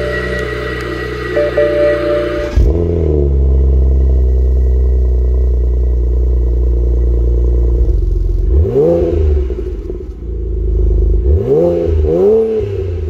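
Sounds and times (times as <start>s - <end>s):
car engine idling: 0.0s - 13.0s
car engine starting and revving: 0.0s - 13.0s.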